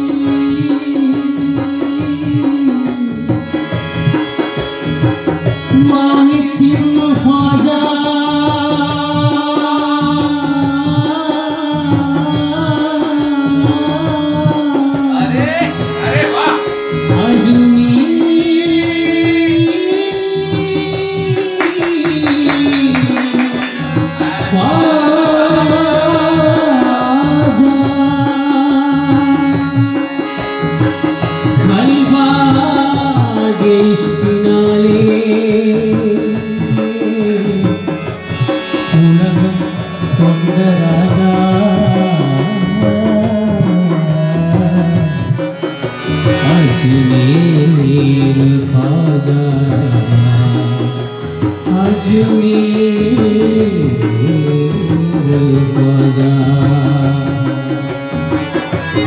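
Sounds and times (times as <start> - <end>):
person singing long bending notes: 0.0 - 4.4, 5.5 - 59.0
hand drum rhythm: 0.0 - 59.0.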